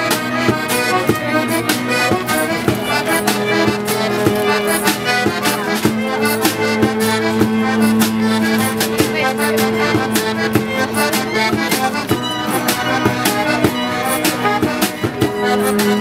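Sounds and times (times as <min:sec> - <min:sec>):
folk band playing lively tune: 0:00.0 - 0:16.0.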